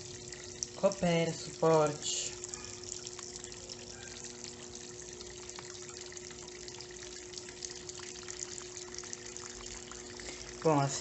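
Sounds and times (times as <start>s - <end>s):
faint steady hum: 0.0s - 11.0s
water pouring into washing machine: 0.0s - 11.0s.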